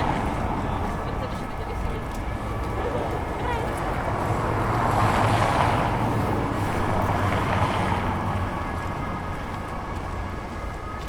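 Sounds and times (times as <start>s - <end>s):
crowd noise: 0.0s - 10.8s
traffic noise: 0.0s - 11.0s.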